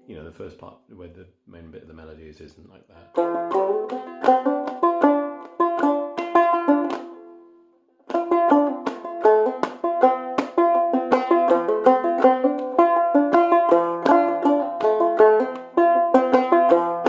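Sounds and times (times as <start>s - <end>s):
banjo picking a melody: 3.0s - 17.0s.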